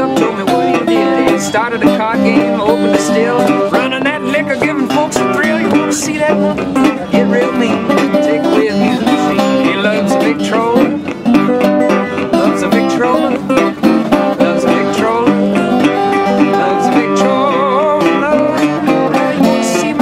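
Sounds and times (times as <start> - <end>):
fingerpicked resonator guitar: 0.0 - 20.0.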